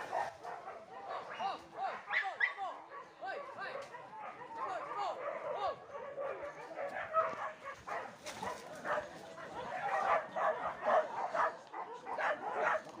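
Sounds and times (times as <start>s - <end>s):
dogs barking and yelping: 0.0s - 13.0s.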